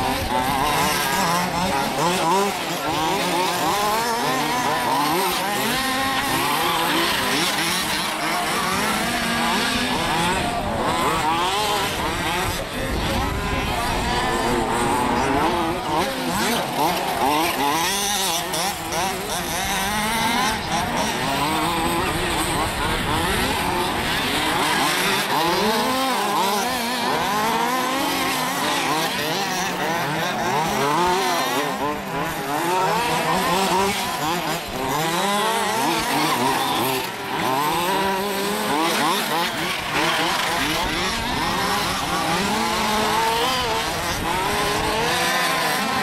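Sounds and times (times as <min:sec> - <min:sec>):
model buggy engines revving: 0:00.0 - 0:46.0.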